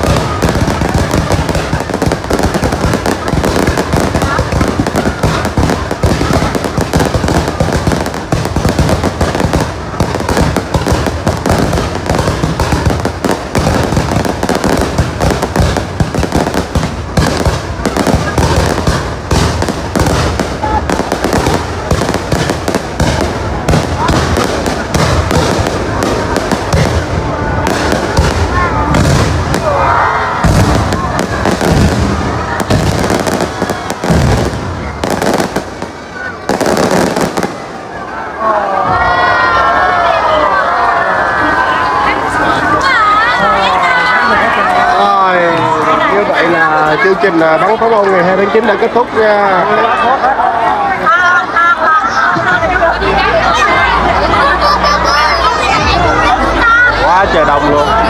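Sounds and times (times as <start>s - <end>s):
fireworks bangs and crackles: 0.0s - 51.1s, 52.0s - 58.0s.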